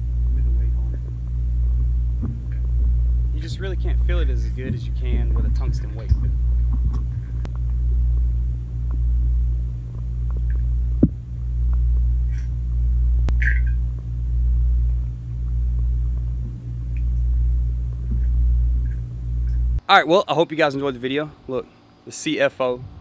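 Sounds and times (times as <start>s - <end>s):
underwater rumble and hum: 0.0s - 19.8s.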